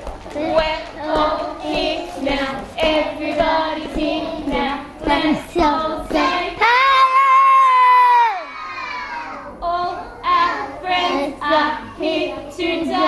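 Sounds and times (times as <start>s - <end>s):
children singing: 0.4s - 13.0s.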